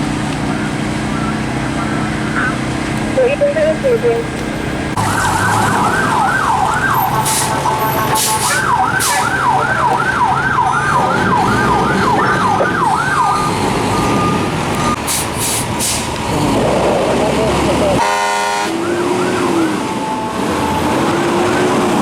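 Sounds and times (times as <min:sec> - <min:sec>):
engine rumbling: 0:00.0 - 0:22.0
fire engine siren yelping: 0:03.3 - 0:22.0.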